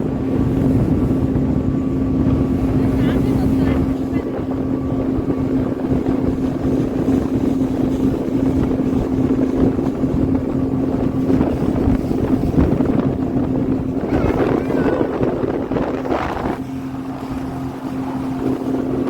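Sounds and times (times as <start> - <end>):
rushing water: 0.0 - 19.0
speedboat engine running: 0.0 - 19.0
wind buffeting microphone: 0.0 - 19.0.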